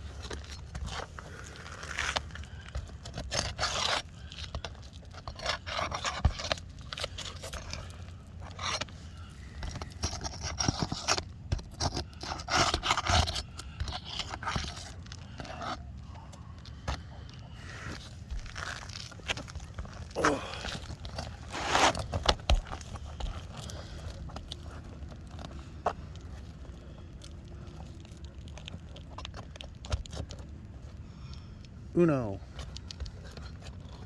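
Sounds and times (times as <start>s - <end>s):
scraping and rasping: 0.0s - 31.6s.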